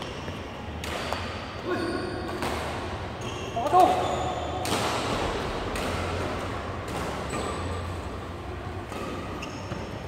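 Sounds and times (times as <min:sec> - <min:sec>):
sports hall hiss and hum: 0:00.0 - 0:10.0.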